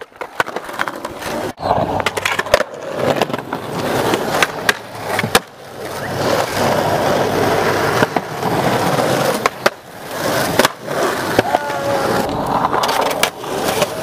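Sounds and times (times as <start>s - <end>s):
skateboard popping and landing: 0.0s - 14.0s
skateboard wheels rolling on concrete: 0.0s - 14.0s.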